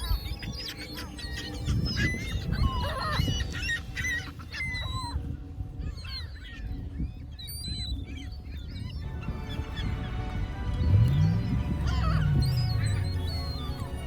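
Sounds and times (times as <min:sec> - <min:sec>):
birds honking: 0:00.0 - 0:14.0.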